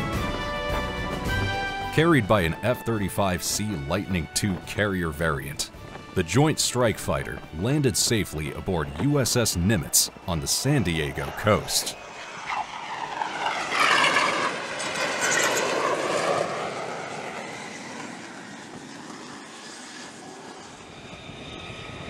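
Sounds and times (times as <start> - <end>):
jet engine roaring: 0.1 - 22.0.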